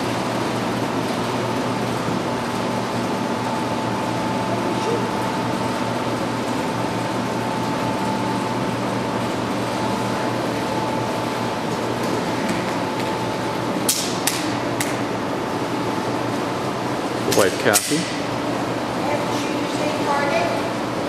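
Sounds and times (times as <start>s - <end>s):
fan hum and hiss: 0.0s - 21.0s.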